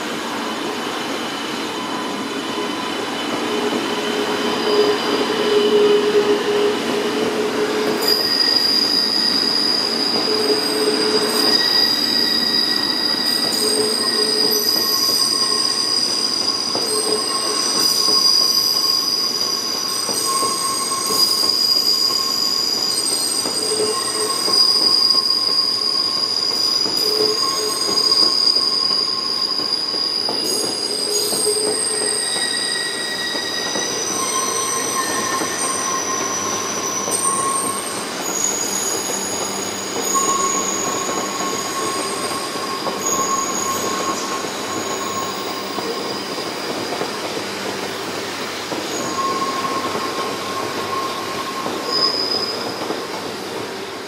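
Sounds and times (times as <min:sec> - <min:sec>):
train wheels squealing on rails: 0:00.0 - 0:54.0.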